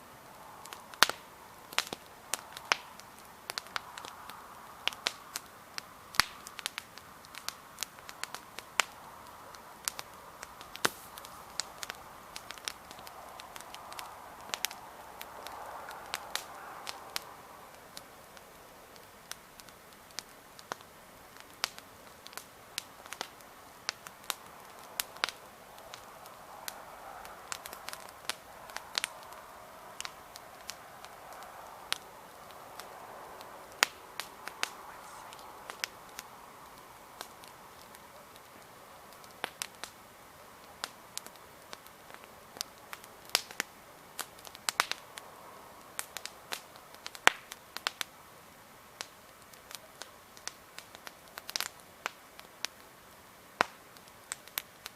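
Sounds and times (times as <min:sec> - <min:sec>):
campfire crackling and popping: 0:00.0 - 0:54.9
soft rushing of fire: 0:00.0 - 0:54.9.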